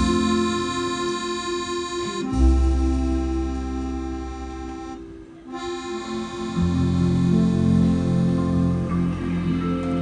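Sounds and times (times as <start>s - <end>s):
accordion: 0.0s - 10.0s
live band holding a chord: 0.0s - 10.0s.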